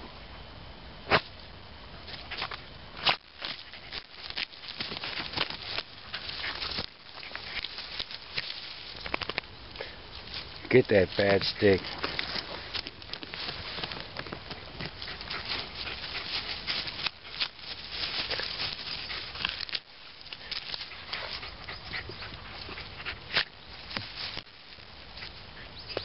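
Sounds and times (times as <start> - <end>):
leaves rustling: 1.0 - 26.0
paws scrabbling in earth: 2.0 - 26.0
twigs snapping: 2.1 - 21.4, 23.3 - 25.4
dog snuffling: 3.4 - 26.0.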